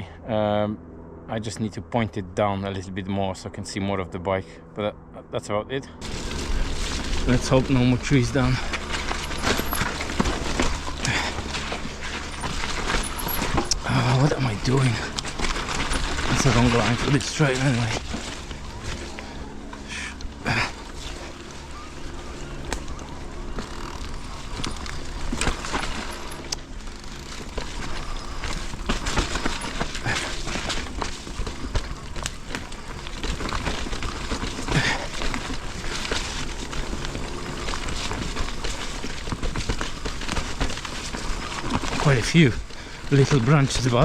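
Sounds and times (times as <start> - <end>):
bike rattling over bumps: 6.0 - 44.0
bike tyres rolling over dirt: 6.0 - 44.0.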